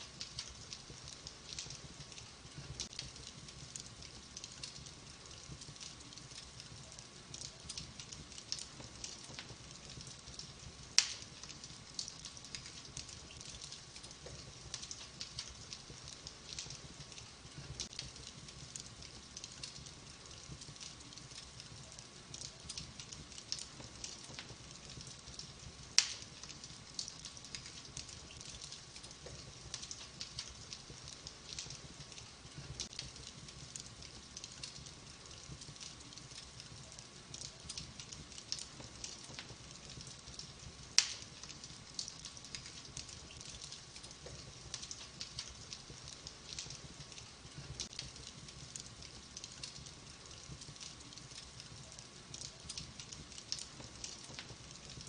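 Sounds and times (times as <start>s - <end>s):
loud sharp fire snaps: 0.0s - 55.0s
wood fire crackling: 0.0s - 55.0s.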